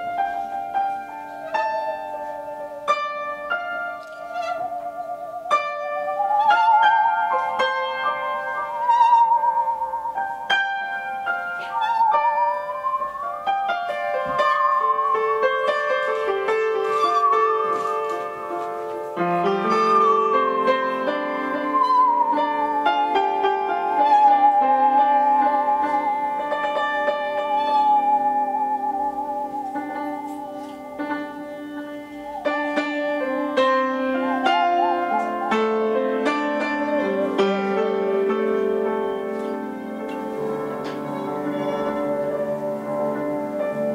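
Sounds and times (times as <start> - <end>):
high bowed tone with vibrato: 0.0 - 43.9
upright piano playing: 0.0 - 43.9.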